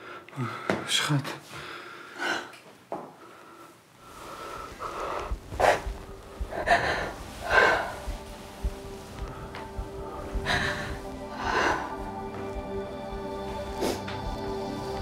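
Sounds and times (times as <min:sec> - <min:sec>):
heavy breaths and gasps: 0:00.0 - 0:12.3.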